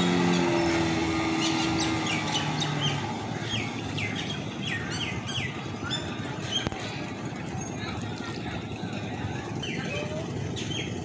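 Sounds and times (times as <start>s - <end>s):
distant speedboat engine hum: 0.0s - 11.0s
water: 0.0s - 11.0s.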